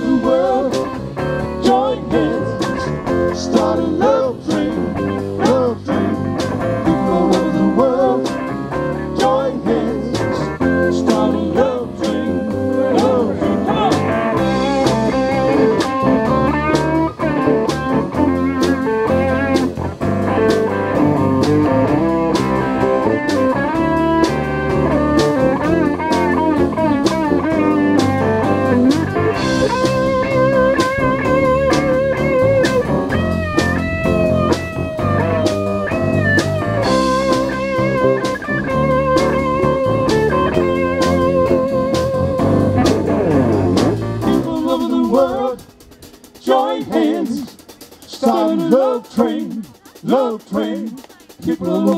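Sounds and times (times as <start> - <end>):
electric guitar lead: 0.0 - 44.6
bass guitar: 0.0 - 51.9
drum kit: 0.0 - 51.9
keyboard: 0.0 - 51.9.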